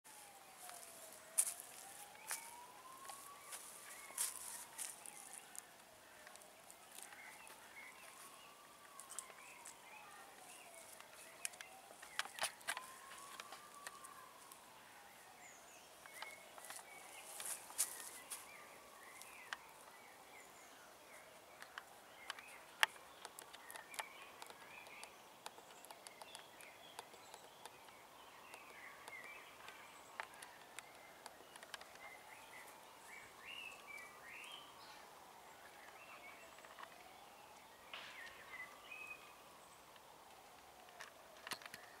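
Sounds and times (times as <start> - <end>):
small birds chirping: 0.1 - 42.0.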